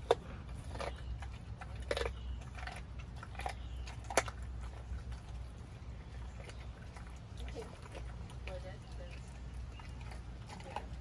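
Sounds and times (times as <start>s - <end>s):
dog crunching bones: 0.0s - 11.0s.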